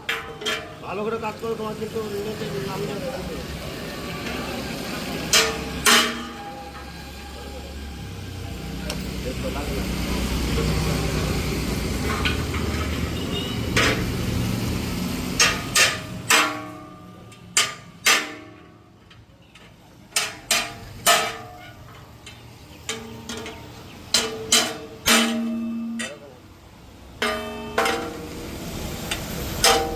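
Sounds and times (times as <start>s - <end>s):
low engine rumble: 0.0s - 29.9s.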